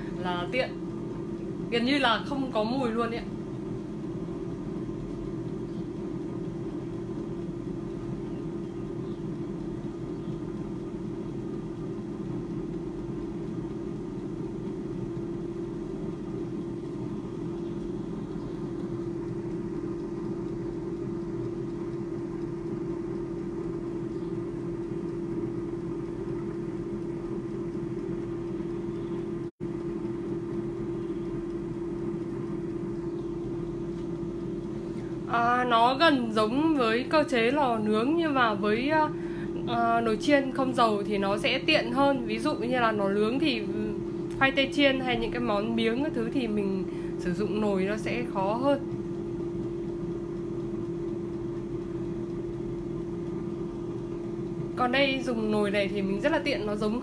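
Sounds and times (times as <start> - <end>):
air fryer fan hum: 0.0 - 57.0.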